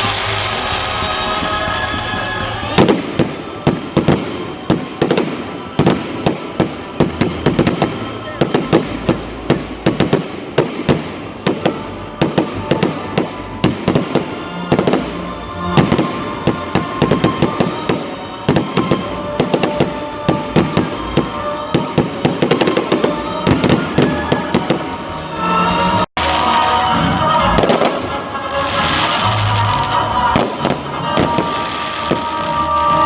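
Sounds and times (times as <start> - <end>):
fireworks bangs and crackling pops: 0.0 - 33.0.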